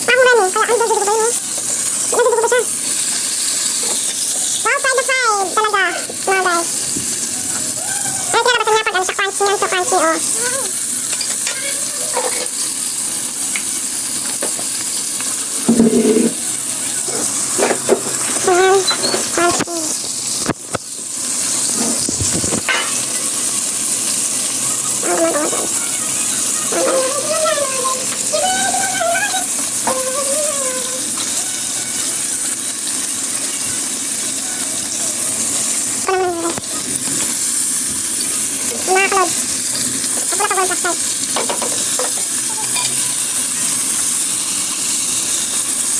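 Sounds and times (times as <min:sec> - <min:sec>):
chicken frying in hot oil: 0:00.0 - 0:45.9.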